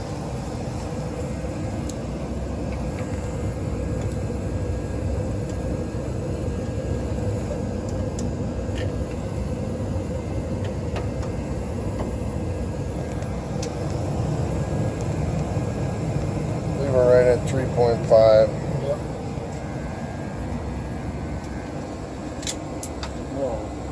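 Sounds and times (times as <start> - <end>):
faint steady hum: 0.0 - 23.9
gas furnace low rumble: 0.0 - 23.9.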